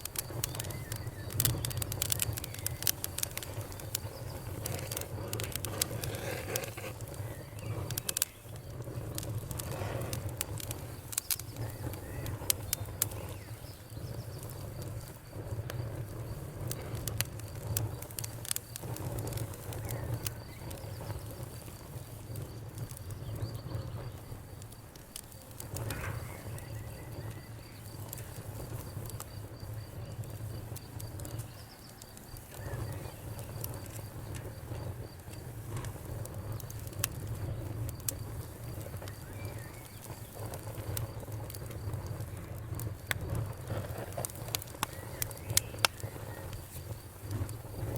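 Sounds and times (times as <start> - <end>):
crickets trilling: 0.0 - 47.9
wood fire crackling and popping: 0.0 - 47.9.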